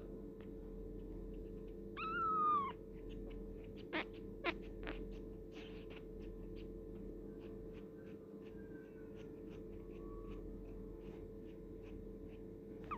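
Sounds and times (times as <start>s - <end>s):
faint clicks and scratching: 0.0s - 12.9s.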